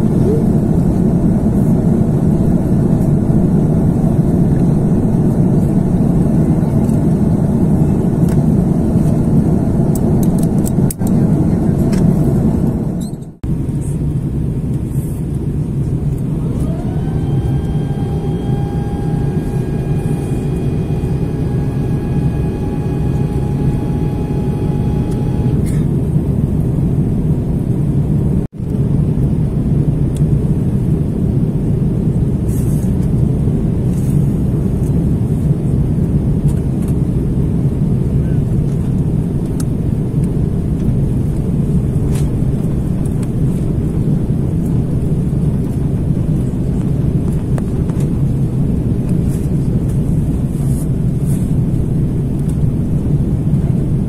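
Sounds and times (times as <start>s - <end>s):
airliner cabin rumble: 0.0s - 54.0s
steady whine: 0.0s - 54.0s.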